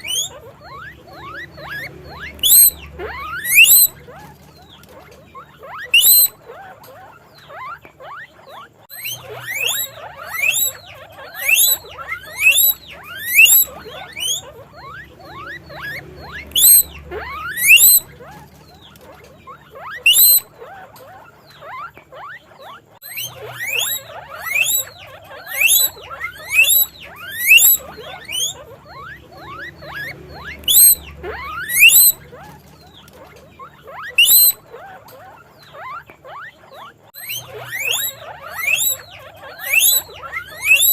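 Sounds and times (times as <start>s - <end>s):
guinea pig squeaking: 0.0s - 40.9s.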